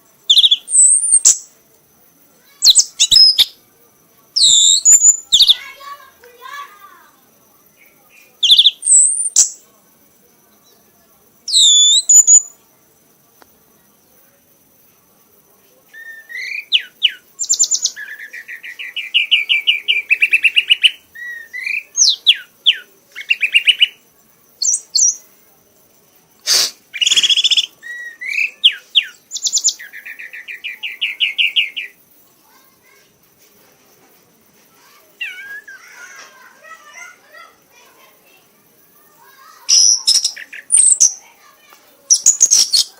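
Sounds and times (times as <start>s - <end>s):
songbird singing trills: 0.0s - 1.6s, 2.5s - 6.9s, 7.5s - 9.7s, 10.3s - 13.1s, 15.9s - 33.0s, 34.8s - 42.9s.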